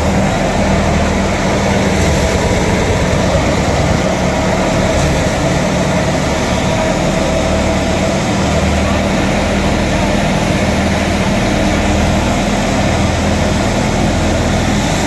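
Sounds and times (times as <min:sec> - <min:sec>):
thresher humming whine: 0:00.0 - 0:15.0
tractor engine droning under load: 0:00.0 - 0:15.0.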